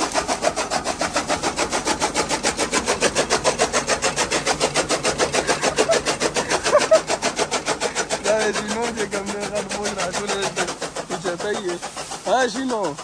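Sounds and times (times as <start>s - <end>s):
chaff cutter clattering: 0.0s - 13.0s.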